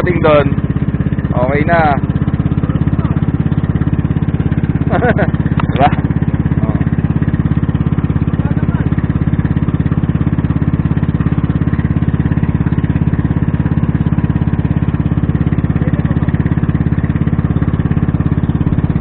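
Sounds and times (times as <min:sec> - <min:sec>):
boat engine pulsing: 0:00.0 - 0:19.0.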